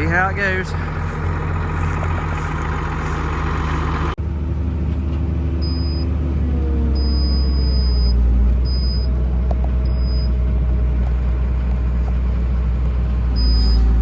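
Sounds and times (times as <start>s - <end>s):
tractor engine rumbling: 0.0s - 14.0s.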